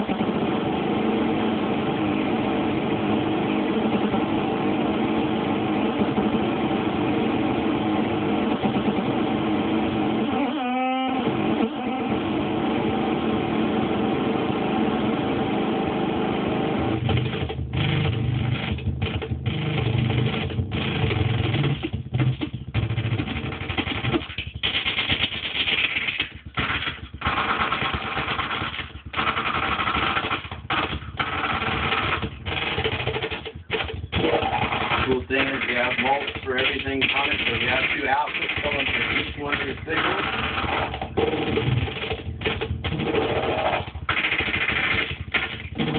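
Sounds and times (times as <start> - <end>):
noisy synthesizer drum loop: 0.0 - 45.9.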